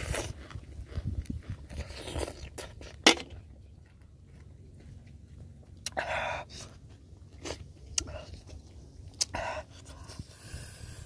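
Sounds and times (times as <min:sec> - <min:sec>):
quiet chewing: 0:00.0 - 0:03.0, 0:03.6 - 0:10.3.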